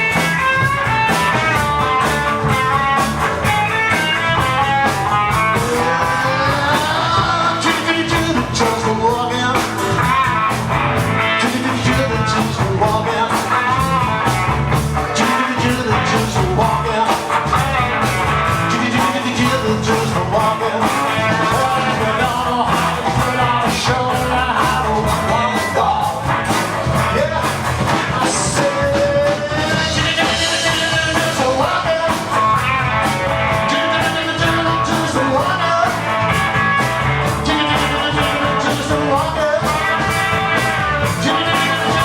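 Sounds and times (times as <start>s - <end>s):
bass guitar: 0.0s - 42.0s
drum beat: 0.0s - 42.0s
lead guitar with bending notes: 0.0s - 42.0s.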